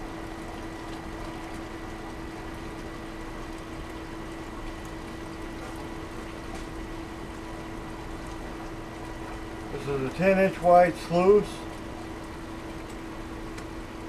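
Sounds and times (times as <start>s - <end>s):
steady pump hum: 0.0s - 14.0s
water running down sluice: 0.0s - 14.0s.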